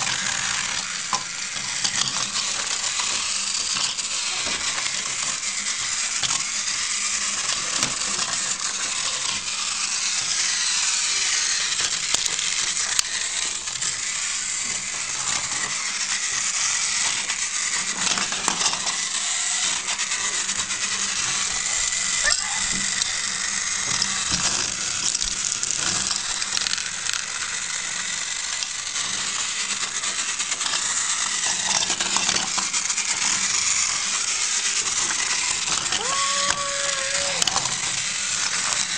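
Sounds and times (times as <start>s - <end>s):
toy train clicks and rattles: 0.0s - 38.9s
toy train motors whirring: 0.0s - 38.9s.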